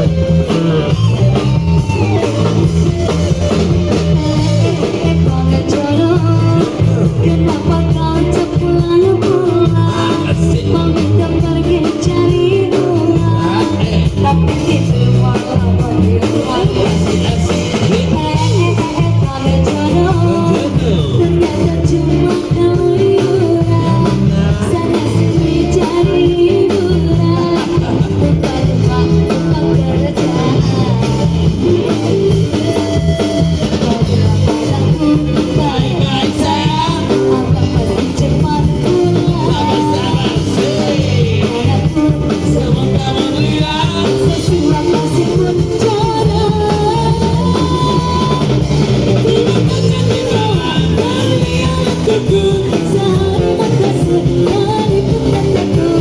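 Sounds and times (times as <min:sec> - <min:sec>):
rock song with singing: 0:00.0 - 0:56.0.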